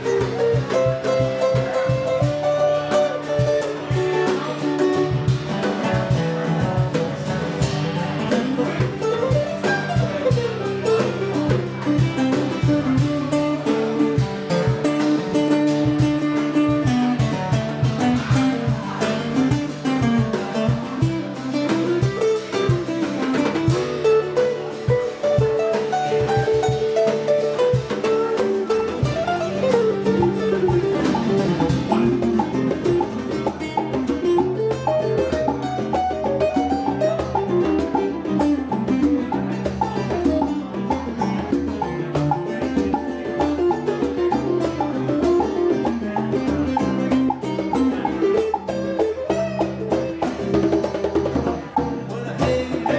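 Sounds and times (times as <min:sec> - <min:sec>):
conga and drum kit percussion: 0:00.0 - 0:52.9
guitar melodic runs: 0:00.0 - 0:52.9.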